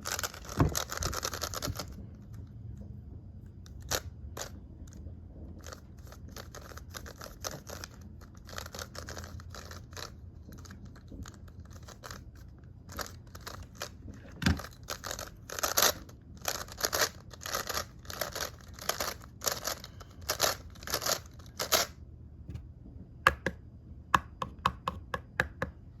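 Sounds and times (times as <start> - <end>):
plastic puzzle clacking and scraping: 0.0 - 2.8, 3.6 - 22.0.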